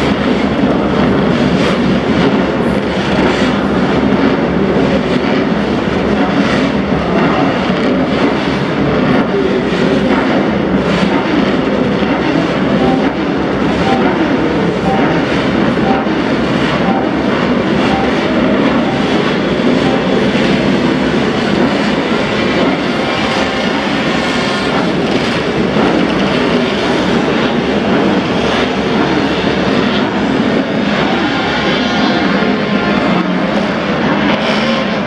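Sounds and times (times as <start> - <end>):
racing motorcycle engines: 0.0 - 35.0.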